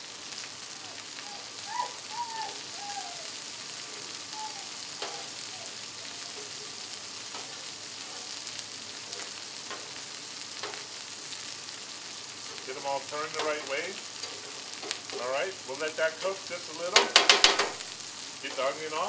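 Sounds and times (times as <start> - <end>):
patties sizzling on griddle: 0.0 - 19.0.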